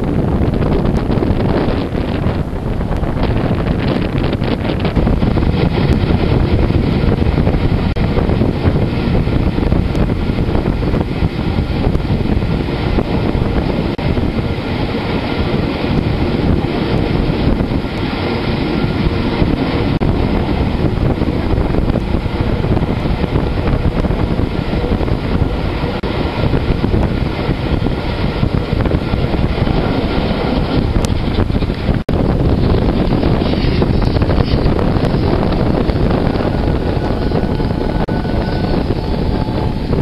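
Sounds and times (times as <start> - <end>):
train rumbling on rails: 0.0 - 40.0
wind buffeting microphone: 0.0 - 40.0.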